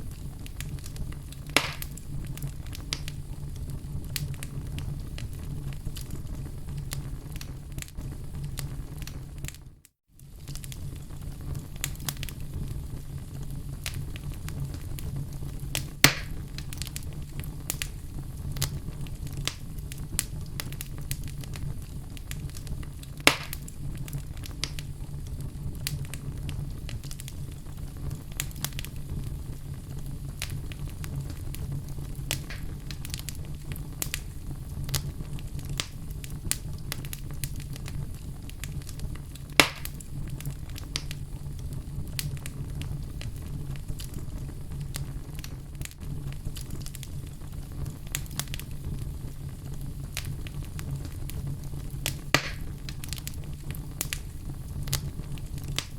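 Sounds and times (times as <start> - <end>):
fire crackling and popping: 0.0 - 55.9
low rumble of flames: 0.0 - 55.9.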